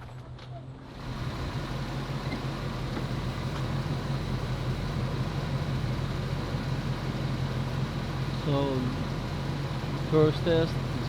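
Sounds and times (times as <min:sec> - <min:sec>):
car engine idling: 0:00.9 - 0:11.0.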